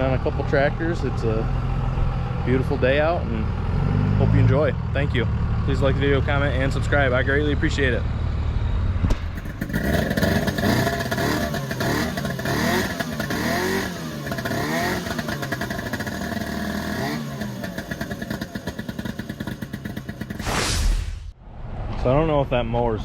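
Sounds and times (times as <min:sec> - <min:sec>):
engine revving: 0:02.4 - 0:22.3.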